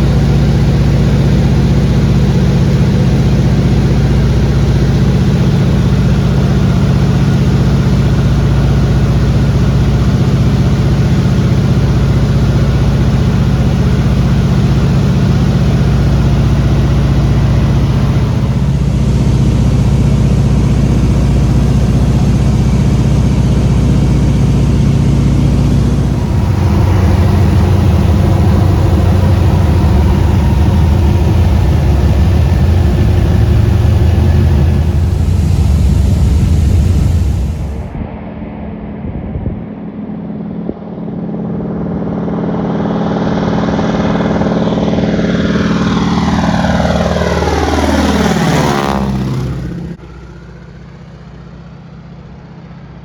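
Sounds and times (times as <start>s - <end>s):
loud engine drone: 0.0s - 38.6s, 40.6s - 52.6s.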